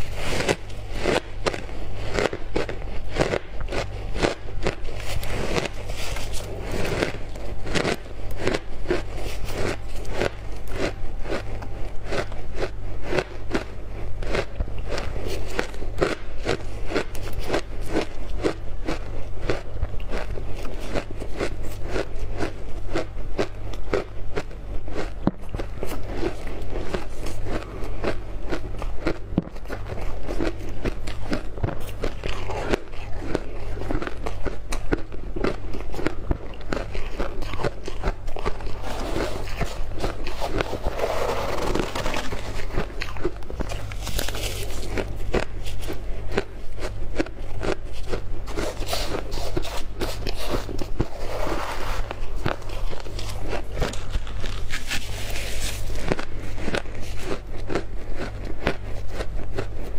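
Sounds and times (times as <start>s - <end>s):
chewing crunchy ice: 0.0s - 59.9s
steady low hum: 0.0s - 59.9s.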